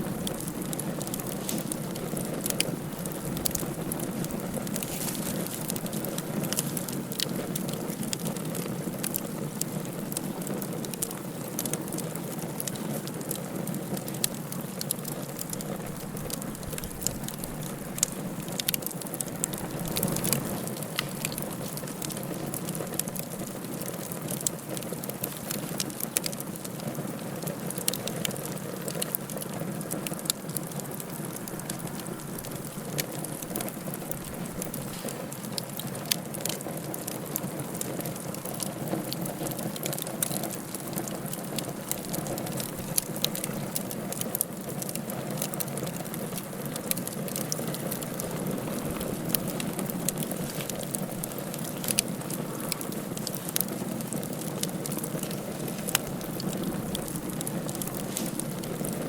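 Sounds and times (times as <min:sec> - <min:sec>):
wood fire hissing and crackling: 0:00.0 - 0:59.0.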